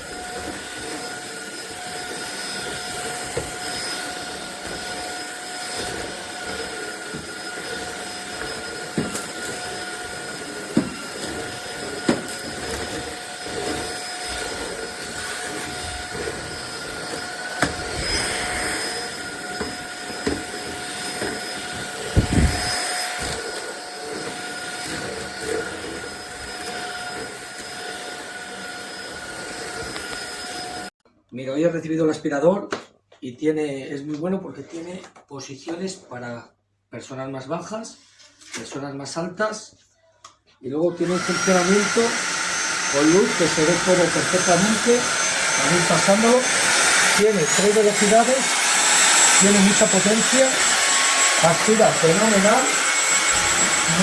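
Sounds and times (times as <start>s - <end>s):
vacuum cleaner motor whining: 0.0s - 30.9s, 41.0s - 54.0s.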